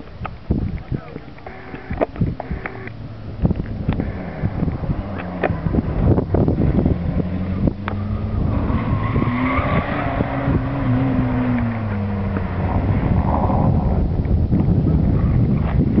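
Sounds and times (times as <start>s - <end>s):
car engine running hard: 0.5s - 16.0s.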